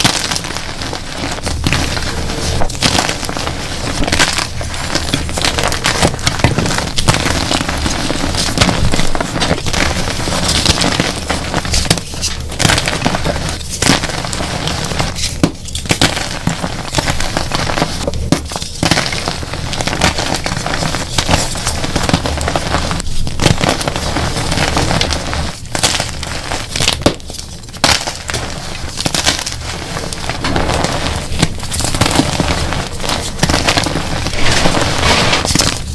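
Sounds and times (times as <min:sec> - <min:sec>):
chalk crunching by hand: 0:00.0 - 0:35.9.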